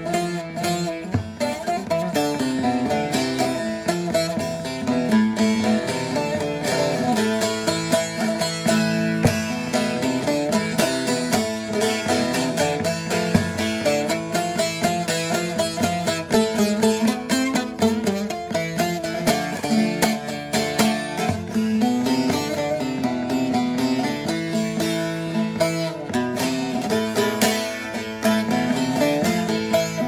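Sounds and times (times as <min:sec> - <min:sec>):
long-necked lute plucked runs: 0:00.0 - 0:30.0.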